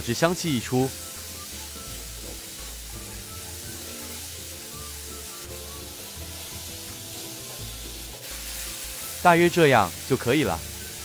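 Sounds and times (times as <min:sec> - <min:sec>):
background music with bass: 0:00.0 - 0:11.0
onion sizzling in hot oil: 0:00.0 - 0:11.0.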